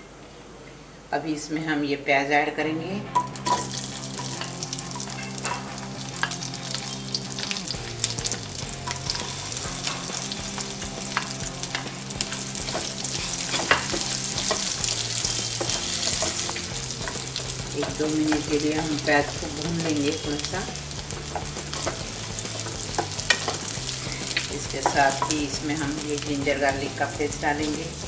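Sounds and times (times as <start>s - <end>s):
pieces clicking onto pan: 3.2s - 26.3s
onion sizzling in hot oil: 3.2s - 28.0s
spatula stirring: 3.2s - 28.0s.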